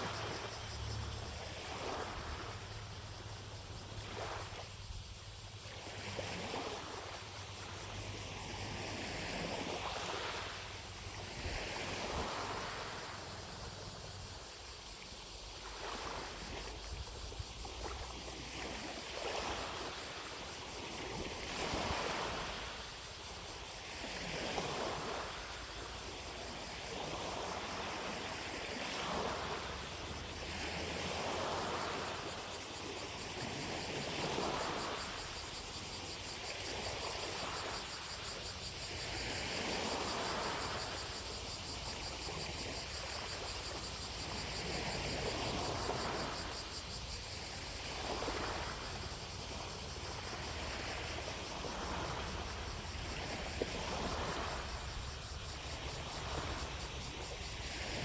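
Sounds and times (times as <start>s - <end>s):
distant cicadas buzzing: 0.0s - 58.0s
waves lapping on shore: 0.0s - 58.0s.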